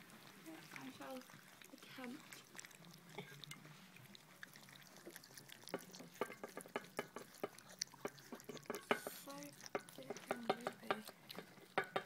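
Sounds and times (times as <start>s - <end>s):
puppies lapping from metal bowls: 0.0s - 12.0s.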